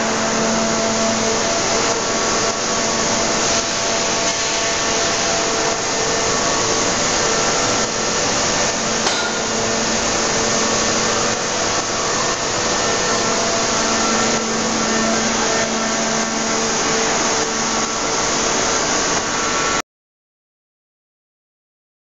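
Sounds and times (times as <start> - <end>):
machinery hiss: 0.0 - 19.8
machinery hum: 0.0 - 19.8.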